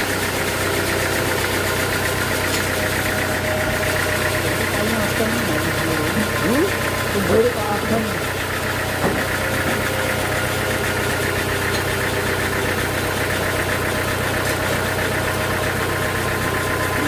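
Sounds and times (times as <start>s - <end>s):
sawmill machinery hum: 0.0s - 17.0s.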